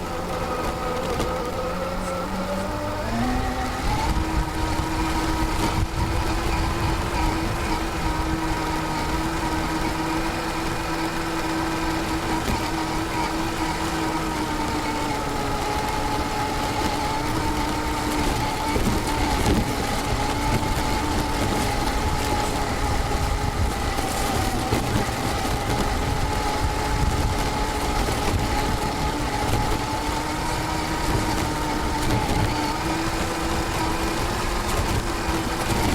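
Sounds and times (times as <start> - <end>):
toy car motor whining: 0.0 - 35.9.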